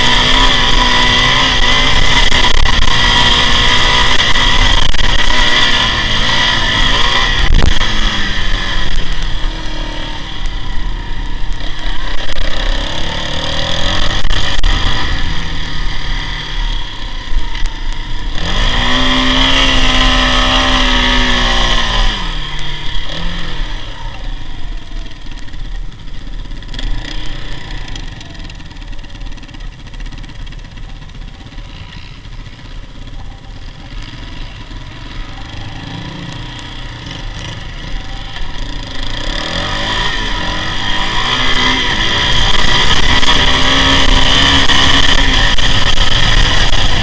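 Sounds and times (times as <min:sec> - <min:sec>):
quad bike engine revving: 0:00.0 - 0:47.0.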